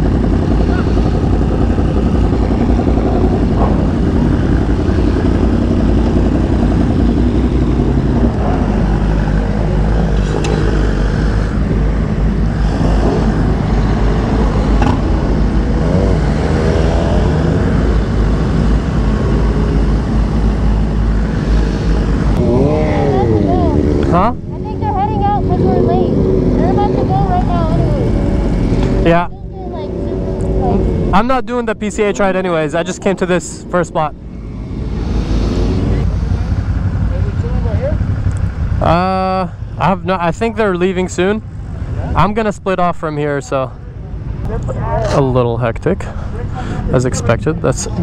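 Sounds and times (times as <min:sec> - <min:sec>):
motorcycle engine revving: 0:00.0 - 0:42.2
motorcycle engines running: 0:00.0 - 0:48.0.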